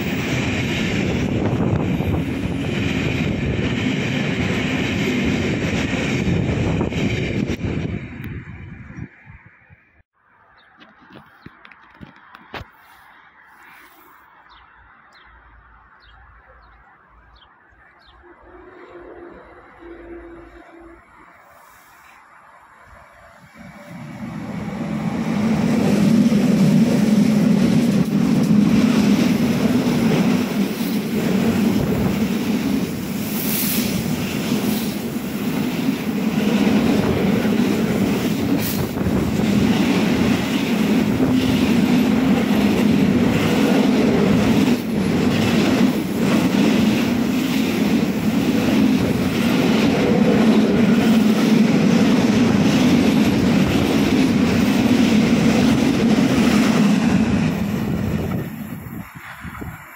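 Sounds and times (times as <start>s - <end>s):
train wheels rumbling on rail: 0.0s - 9.2s, 18.0s - 59.9s.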